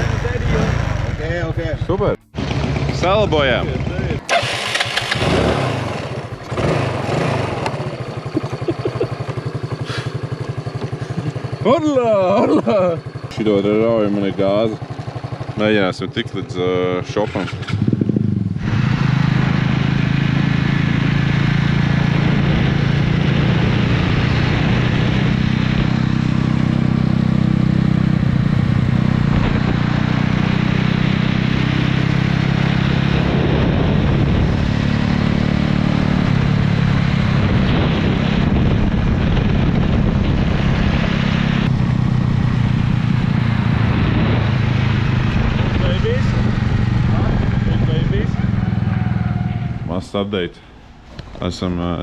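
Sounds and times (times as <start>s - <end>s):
scooter engines running: 0.0s - 31.5s, 41.6s - 52.0s
wind and road noise: 0.0s - 52.0s.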